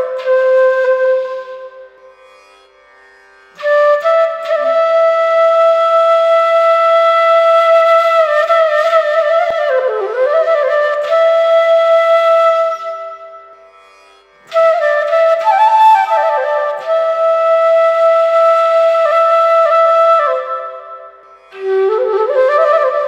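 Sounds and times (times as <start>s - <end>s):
bamboo flute melody: 0.0s - 2.3s, 3.5s - 13.8s, 14.4s - 23.0s.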